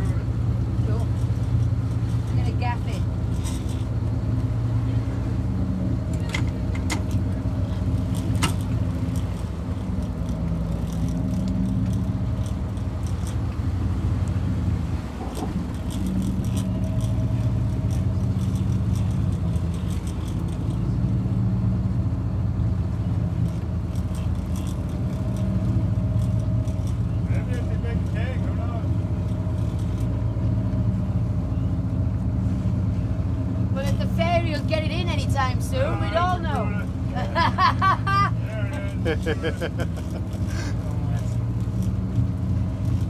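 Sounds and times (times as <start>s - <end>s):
boat engines droning: 0.0s - 43.0s.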